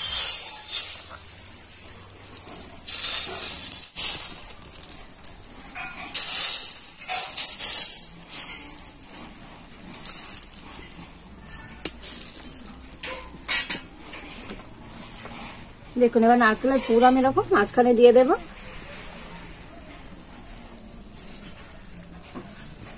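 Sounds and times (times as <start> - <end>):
batter sizzling in wok: 0.0 - 22.9.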